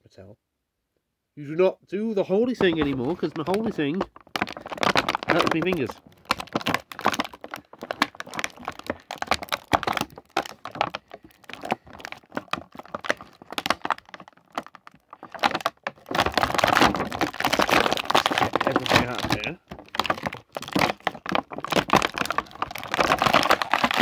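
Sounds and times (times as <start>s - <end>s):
plastic blister packaging crackling: 2.4s - 24.0s.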